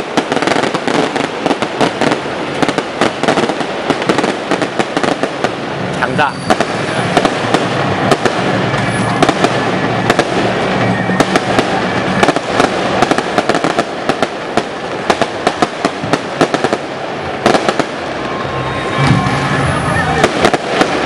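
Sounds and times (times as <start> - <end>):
aerial fireworks bursting: 0.0 - 21.0
firecrackers crackling: 0.0 - 21.0.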